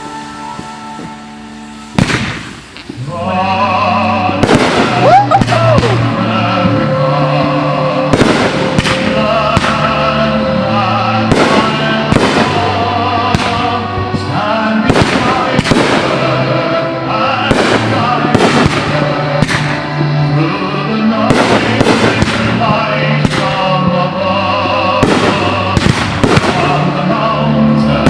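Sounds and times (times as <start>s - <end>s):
fireworks bursting: 0.0s - 28.0s
loud music: 0.0s - 28.0s.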